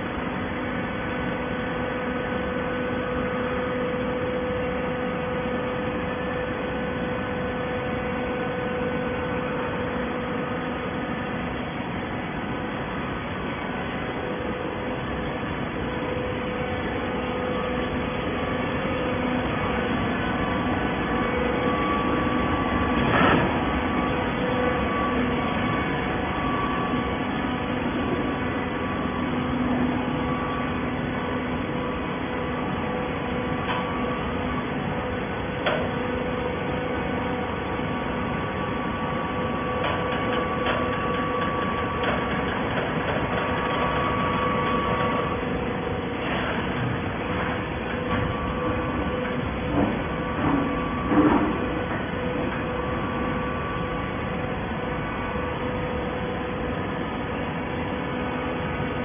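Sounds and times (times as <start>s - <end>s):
baler motor hum: 0.0s - 59.0s.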